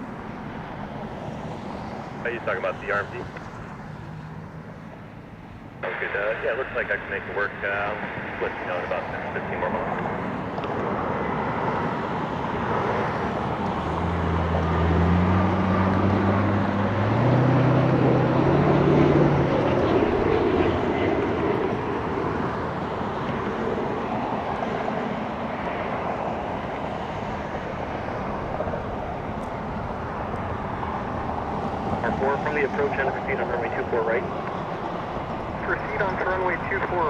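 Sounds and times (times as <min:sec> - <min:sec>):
jet engine roar: 0:00.0 - 0:37.0.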